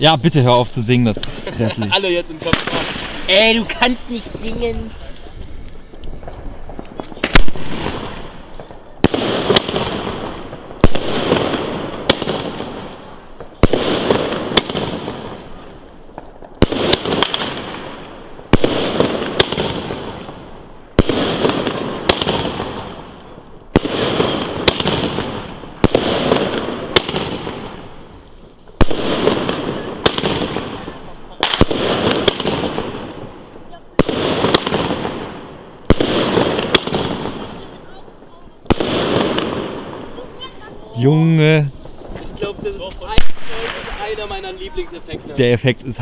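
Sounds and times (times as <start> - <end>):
firework bangs: 0.0 - 45.5
firework hiss: 0.8 - 45.4.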